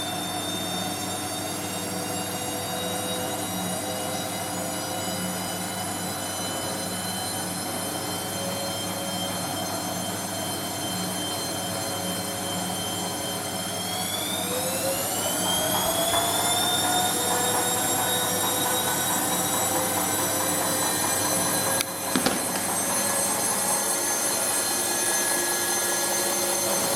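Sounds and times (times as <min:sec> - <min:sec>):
washing machine motor whining: 0:00.0 - 0:26.9.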